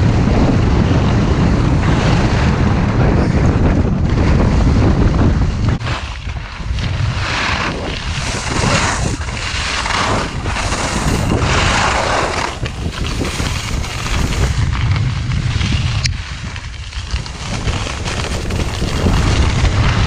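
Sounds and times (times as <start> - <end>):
wind buffeting microphone: 0.0 - 20.0
skis scraping across snow: 0.3 - 20.0.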